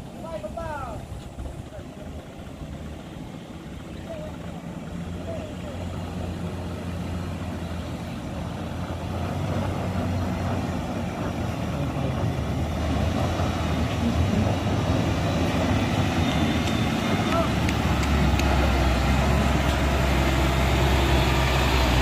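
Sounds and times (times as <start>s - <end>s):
truck diesel engine: 0.0s - 22.0s.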